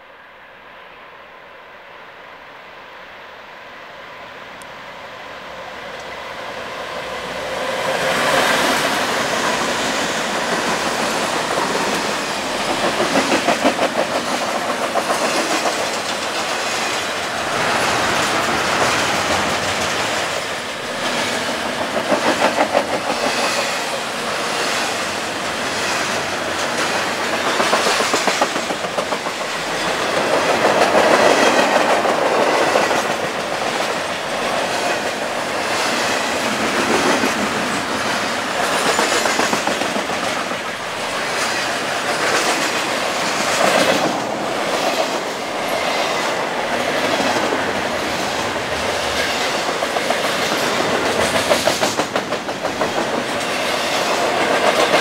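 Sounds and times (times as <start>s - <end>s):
diesel locomotives passing: 0.0s - 55.0s
train wheels clattering over rail joints: 8.0s - 55.0s.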